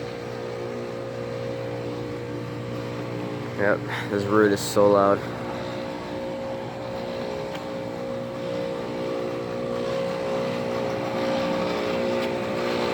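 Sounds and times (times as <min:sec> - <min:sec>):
air conditioner unit humming: 0:00.0 - 0:12.9.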